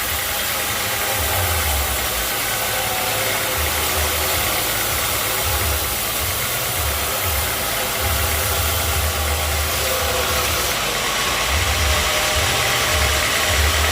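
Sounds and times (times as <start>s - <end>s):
sawmill machinery running: 0.0s - 13.9s.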